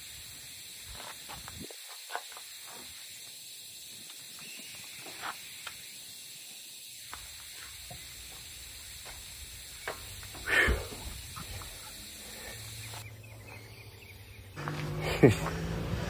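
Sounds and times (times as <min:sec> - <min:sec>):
air hissing from tire valve: 0:00.0 - 0:13.1.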